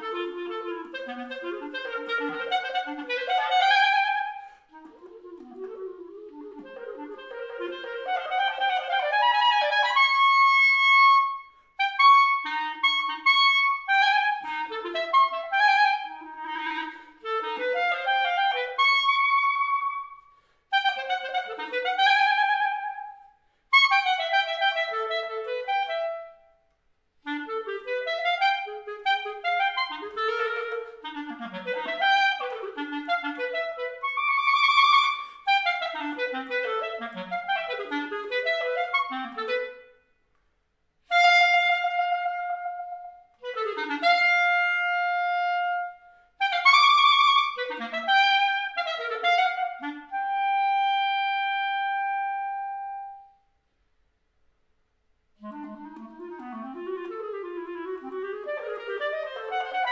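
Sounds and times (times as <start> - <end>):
solo clarinet playing: 0.0 - 53.8, 55.2 - 59.9.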